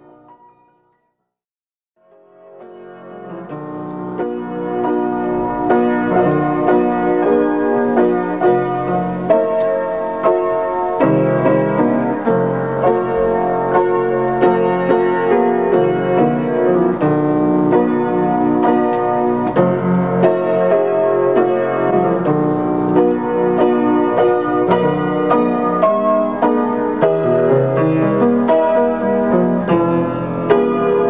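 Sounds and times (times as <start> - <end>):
solo piano melody: 0.0 - 1.1, 2.0 - 31.0.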